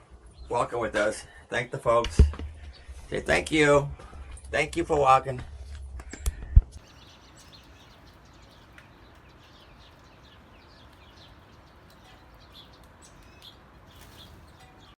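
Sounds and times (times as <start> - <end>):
small songbirds chirping: 0.0 - 1.8, 2.5 - 4.5, 6.7 - 15.0
faint outdoor background hum: 0.0 - 15.0.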